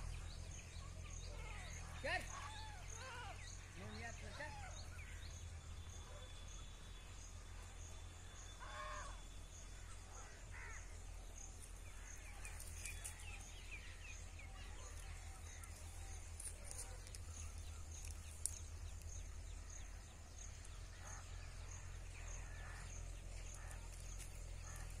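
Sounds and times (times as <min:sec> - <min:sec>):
distant bird calls: 0:00.0 - 0:25.0.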